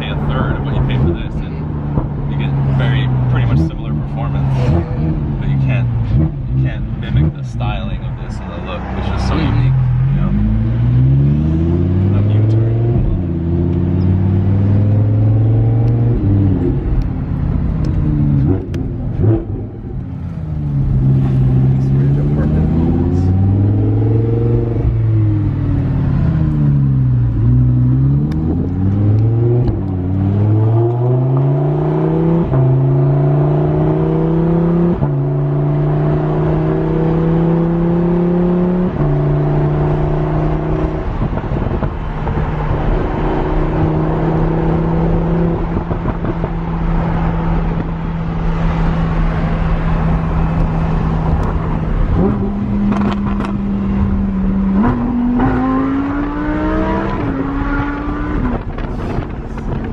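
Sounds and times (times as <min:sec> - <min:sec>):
sports car engine accelerating: 0:00.0 - 0:59.9.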